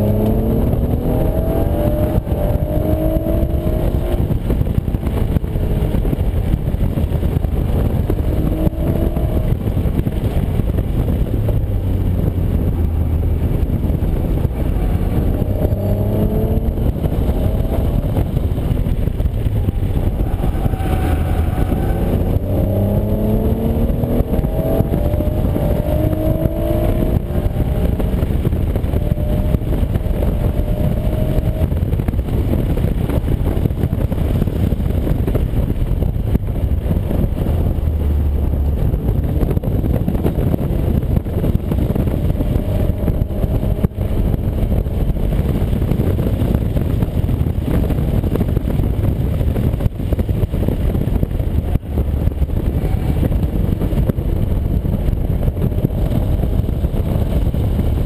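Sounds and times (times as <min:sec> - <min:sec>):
car engine accelerating hard: 0:00.0 - 0:58.0
road and wind rumble: 0:00.0 - 0:58.0.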